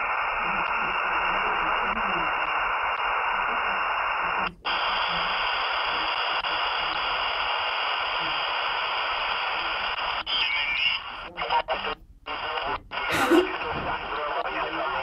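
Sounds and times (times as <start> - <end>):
faint radio signal: 0.0 - 15.0
radio band noise hiss: 0.0 - 15.0.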